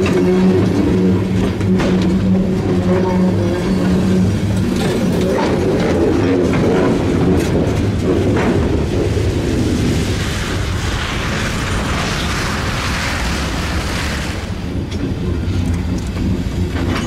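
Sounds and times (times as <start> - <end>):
freight cars rolling past: 0.0 - 17.0.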